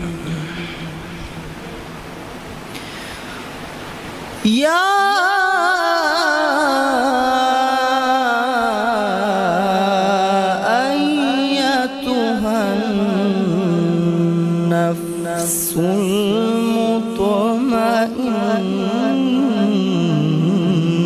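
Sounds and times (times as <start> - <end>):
man reciting melodically: 0.0 - 1.9, 4.4 - 21.0.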